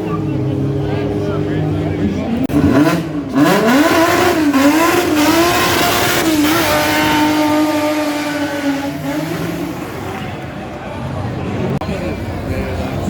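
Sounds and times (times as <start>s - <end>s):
rally car engine revving: 0.0s - 10.5s.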